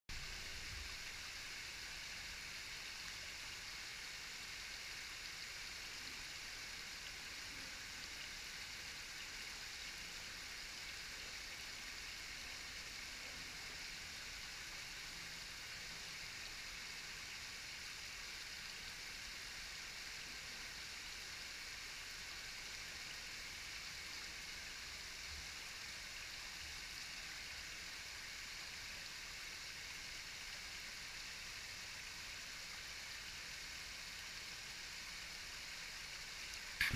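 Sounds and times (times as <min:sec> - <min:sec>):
waterfall hissing: 0:00.1 - 0:36.9.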